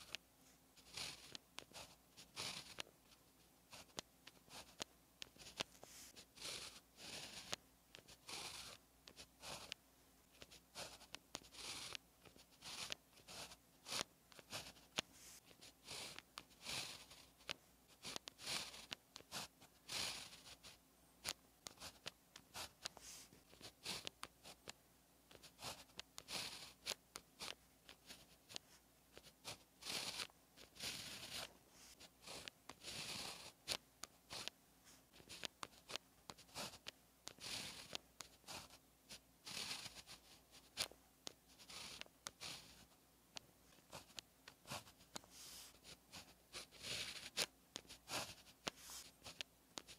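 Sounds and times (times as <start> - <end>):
pen scratching on paper: 0.0 - 43.0, 43.6 - 49.9.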